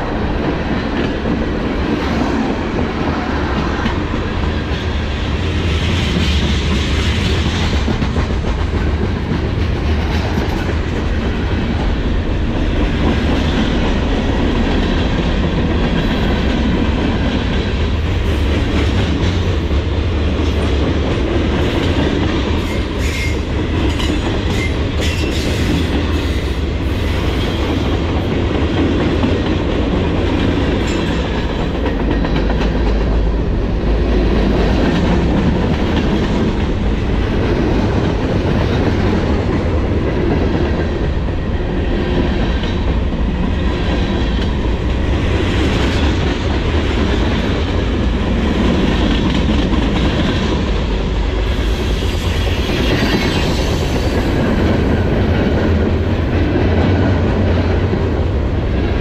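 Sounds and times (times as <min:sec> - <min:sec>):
train wheels clattering on track: 0:00.0 - 0:59.0.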